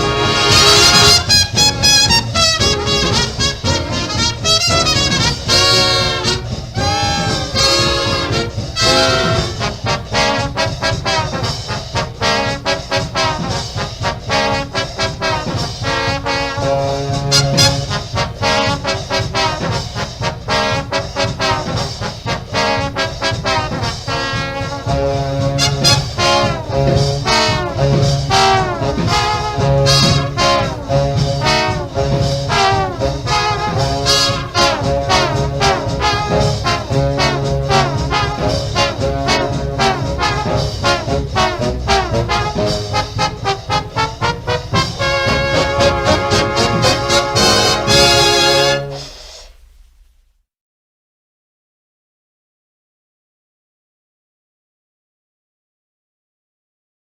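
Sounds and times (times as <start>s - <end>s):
swing jazz with brass: 0.0s - 50.0s.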